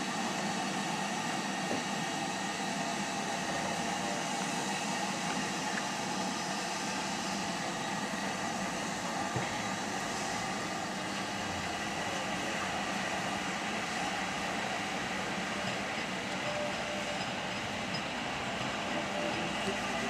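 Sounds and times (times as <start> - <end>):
train rushing in motion: 0.0 - 20.0.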